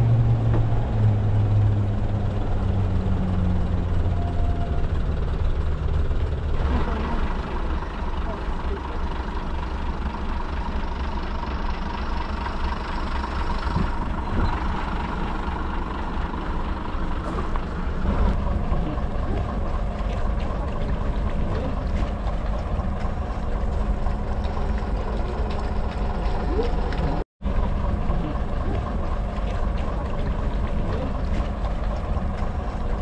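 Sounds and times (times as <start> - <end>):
train diesel engine idling: 0.0 - 33.0.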